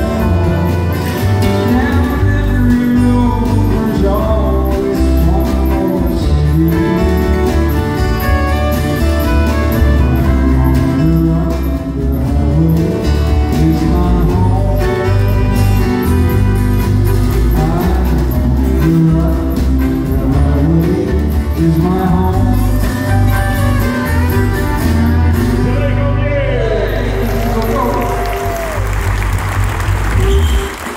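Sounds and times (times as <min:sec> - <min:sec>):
acoustic guitars strumming: 0:00.0 - 0:30.9.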